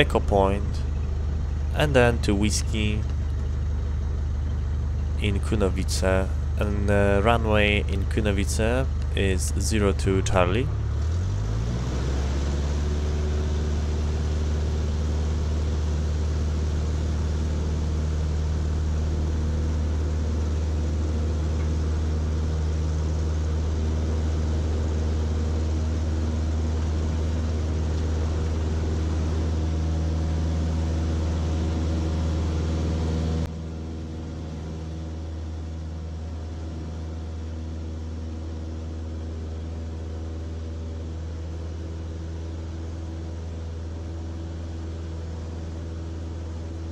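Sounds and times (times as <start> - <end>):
light aircraft engine droning: 0.0 - 46.9.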